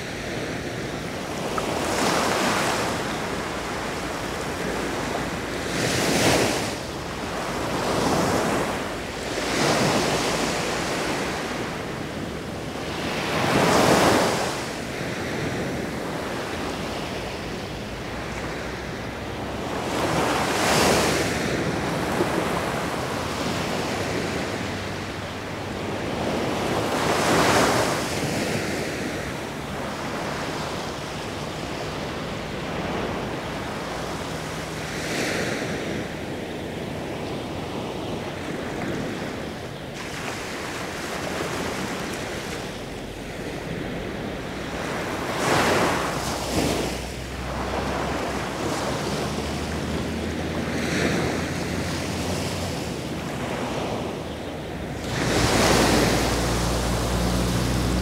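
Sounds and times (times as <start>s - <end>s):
sea waves washing onto beach: 0.0s - 58.0s.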